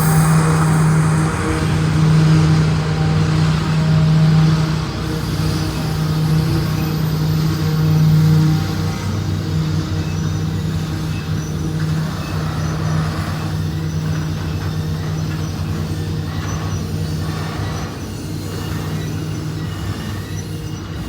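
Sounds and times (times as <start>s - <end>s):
locomotive engine drone: 0.0s - 21.0s
train rolling and rumbling: 0.0s - 21.0s.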